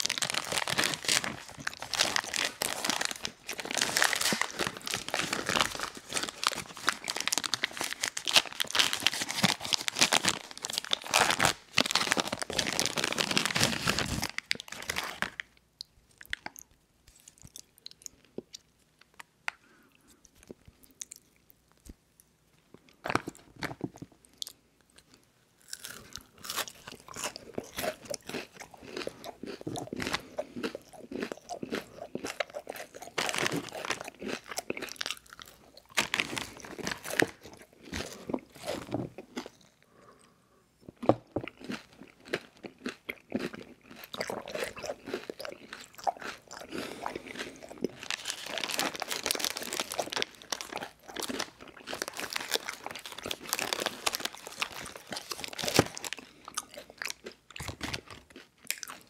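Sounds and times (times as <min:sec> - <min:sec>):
crispy cereal treat crunching: 0:00.0 - 0:19.2, 0:22.8 - 0:39.7, 0:41.0 - 0:59.0.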